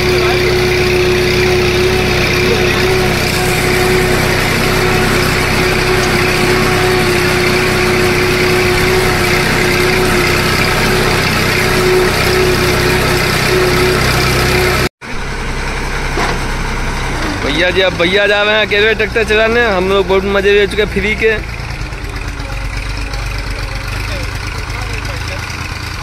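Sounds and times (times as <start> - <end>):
engine whine: 0.0 - 26.0
tractor diesel engine droning: 0.0 - 26.0.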